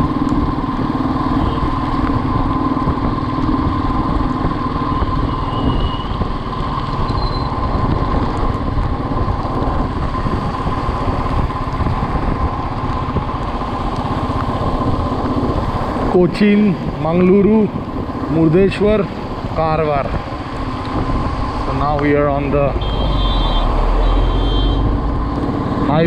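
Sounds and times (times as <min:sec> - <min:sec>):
motorcycle engine: 0:00.0 - 0:26.0
wind and road noise: 0:00.0 - 0:26.0.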